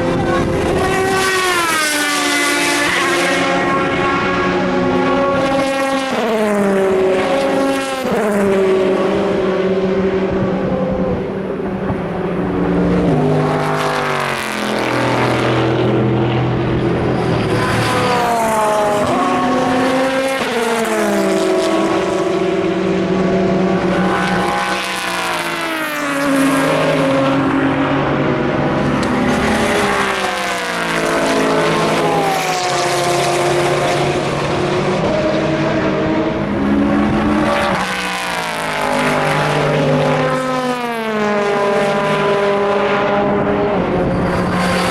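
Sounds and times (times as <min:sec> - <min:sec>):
racing cars passing at speed: 0:00.0 - 0:44.9.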